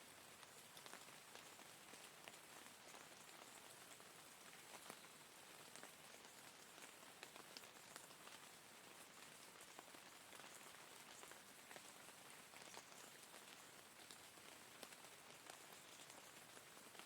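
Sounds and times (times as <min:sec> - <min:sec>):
faint rain hiss: 0:00.0 - 0:17.0
raindrops ticking: 0:00.4 - 0:17.0.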